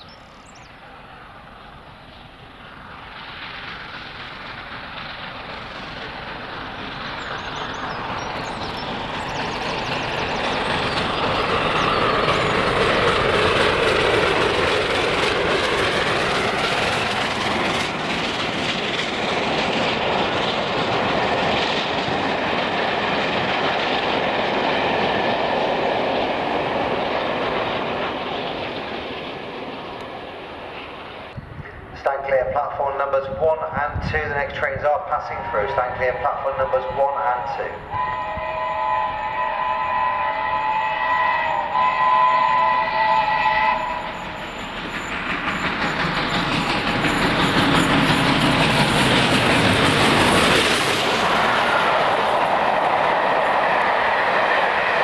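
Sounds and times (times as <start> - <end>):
steam locomotive passing: 0.0 - 55.0
train wheels on rails: 0.0 - 55.0.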